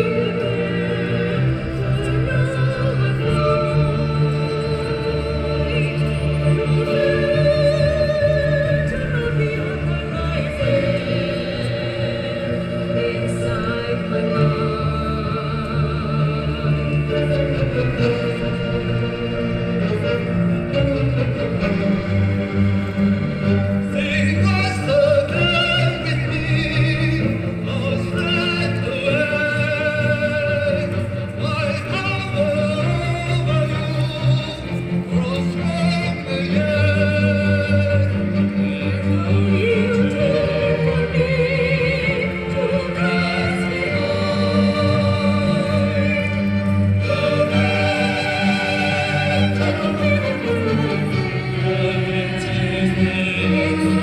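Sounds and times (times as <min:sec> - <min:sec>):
instrumental accompaniment: 0:00.0 - 0:54.0
music: 0:00.0 - 0:54.0
operatic singing with vibrato: 0:00.0 - 0:54.0.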